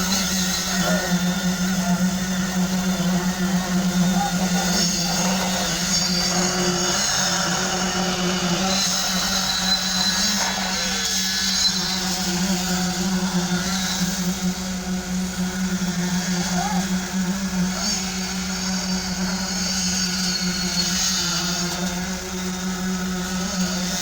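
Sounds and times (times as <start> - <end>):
concrete pouring machinery drone: 0.0 - 24.0.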